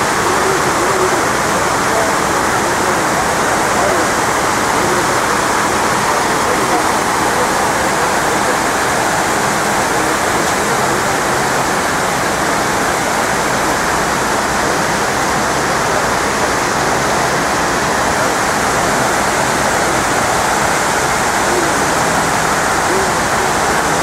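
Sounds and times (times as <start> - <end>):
waterfall pouring into pool: 0.0 - 24.0.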